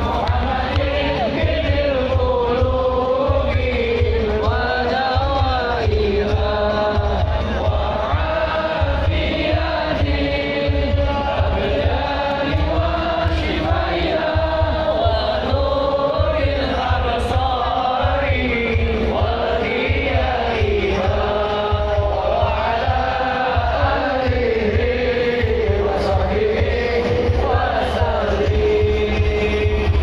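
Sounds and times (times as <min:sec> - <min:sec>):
chorus chanting devotional song: 0:00.0 - 0:30.0
steady drum beat: 0:00.0 - 0:30.0.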